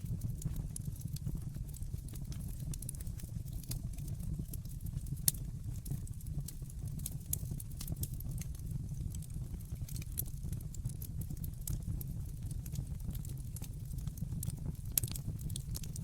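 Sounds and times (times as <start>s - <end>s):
fire crackling and snapping: 0.0s - 16.0s
flames rumbling in fireplace: 0.0s - 16.0s.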